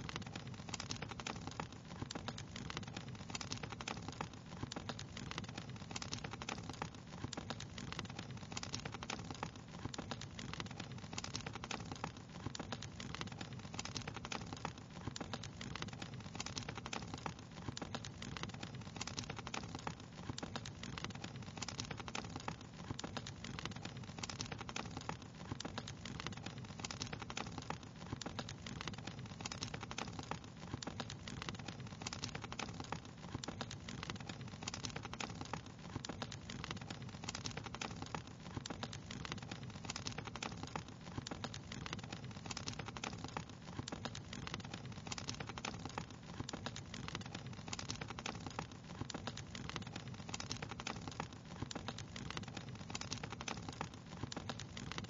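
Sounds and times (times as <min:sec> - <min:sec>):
fireplace fire crackling: 0:00.0 - 0:55.0
low hiss of burning: 0:00.0 - 0:55.0.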